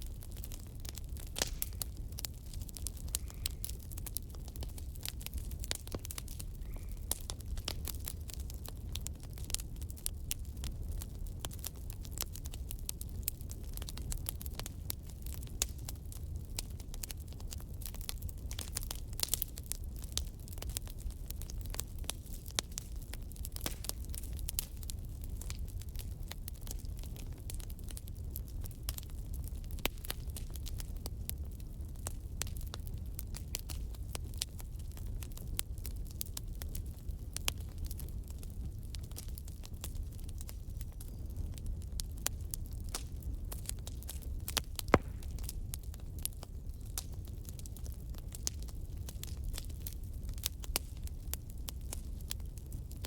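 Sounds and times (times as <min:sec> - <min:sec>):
logs crackling in fireplace: 0:00.0 - 0:53.0
low rumble of flames: 0:00.0 - 0:53.0.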